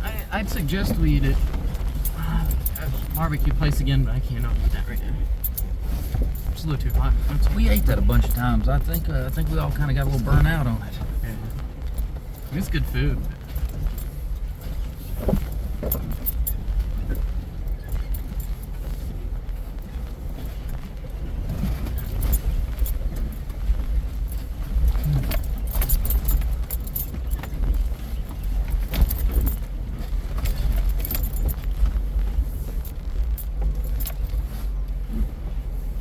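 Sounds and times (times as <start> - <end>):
engine and road rumble: 0.0 - 36.0
loose gear rattling: 0.0 - 36.0.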